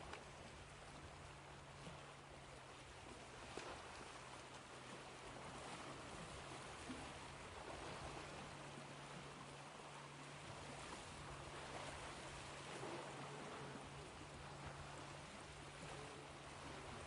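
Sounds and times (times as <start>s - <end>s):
low hum: 0.0s - 17.0s
ocean waves washing: 0.0s - 17.0s.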